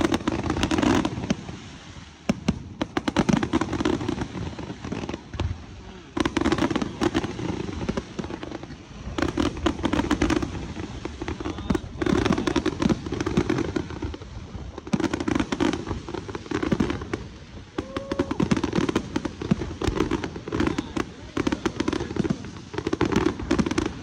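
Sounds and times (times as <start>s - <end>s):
fireworks crackling pops: 0.0s - 24.0s.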